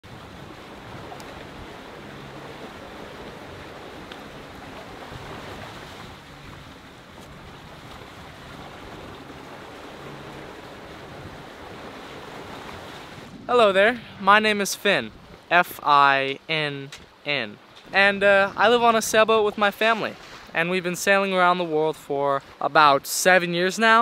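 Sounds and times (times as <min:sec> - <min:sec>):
water rushing along boat hull: 0:00.0 - 0:24.0
wind: 0:00.0 - 0:24.0.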